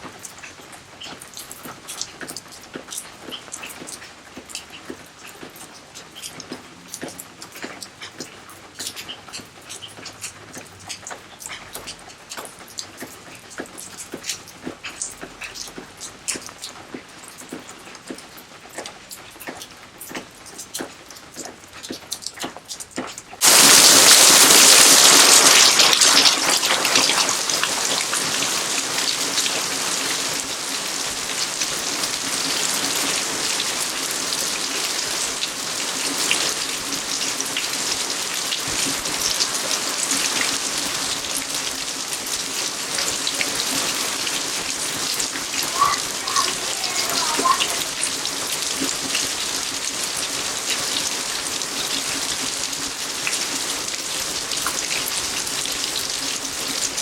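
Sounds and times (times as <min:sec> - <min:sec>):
rain drops pattering: 0:00.0 - 0:57.0.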